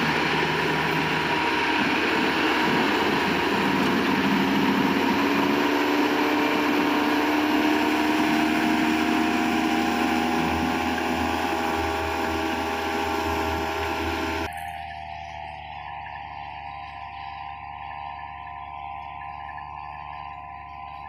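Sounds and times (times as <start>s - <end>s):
combine harvester running: 0.0s - 20.3s.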